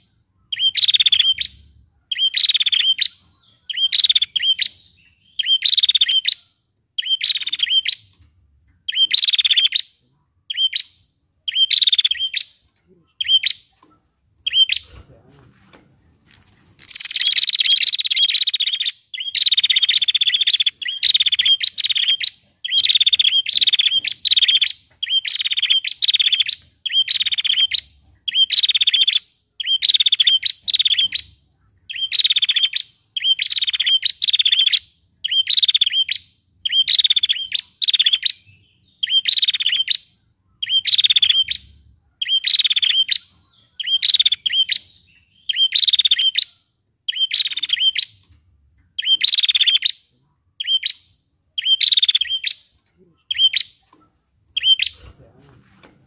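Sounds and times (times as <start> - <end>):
bird calling in rapid trills: 0.0 - 8.1, 8.8 - 13.8, 14.4 - 15.1, 16.8 - 48.2, 48.9 - 53.9, 54.5 - 55.2.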